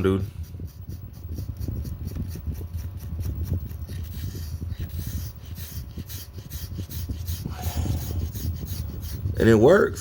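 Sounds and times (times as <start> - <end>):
steady low hum: 0.0 - 10.0
razor blade scraping glass screen: 0.9 - 9.3.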